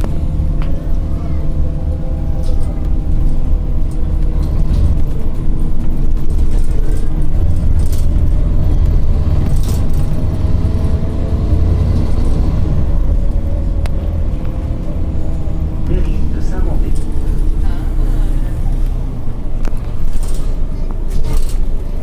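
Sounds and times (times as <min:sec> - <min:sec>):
bus engine drone: 0:00.0 - 0:22.0
road rumble: 0:00.0 - 0:22.0.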